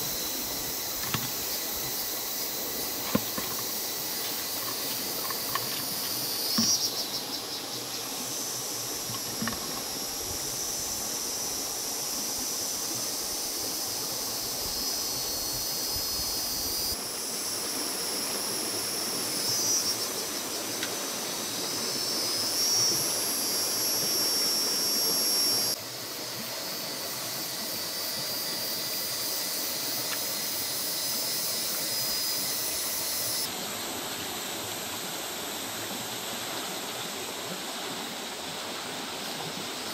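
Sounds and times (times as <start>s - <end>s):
insects buzzing: 0.0s - 39.9s
steady hiss: 0.0s - 39.9s.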